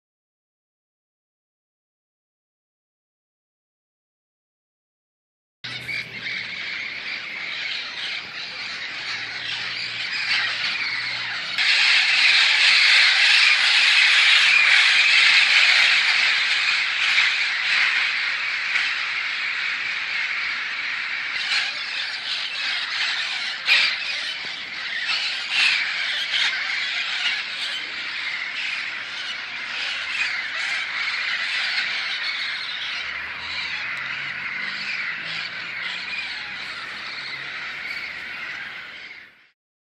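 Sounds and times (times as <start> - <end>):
flock of parrots squawking: 5.7 - 39.6.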